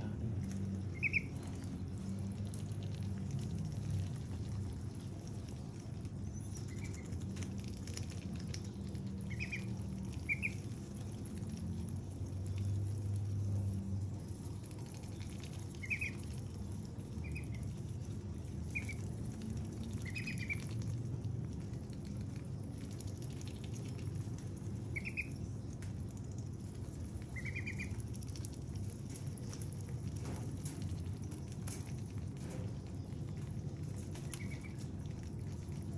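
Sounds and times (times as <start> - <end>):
ducklings pecking watermelon: 0.0 - 35.9
ducklings peeping: 0.4 - 13.3, 14.0 - 30.2, 32.8 - 35.8.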